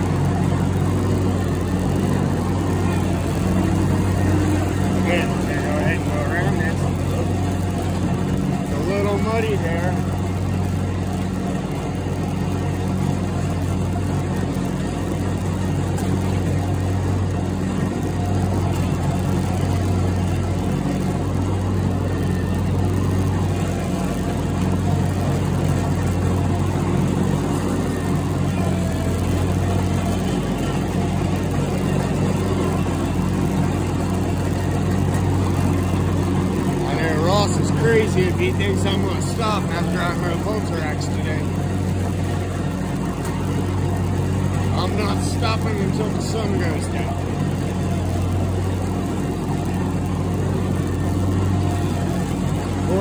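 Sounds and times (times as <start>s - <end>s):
riding lawn mower engine: 0.0s - 53.0s.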